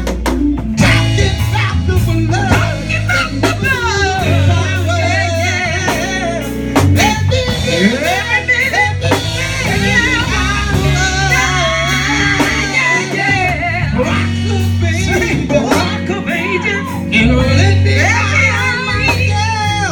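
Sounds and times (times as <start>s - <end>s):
band with bass drums and guitar: 0.0s - 19.9s
person singing gospel: 0.0s - 19.9s.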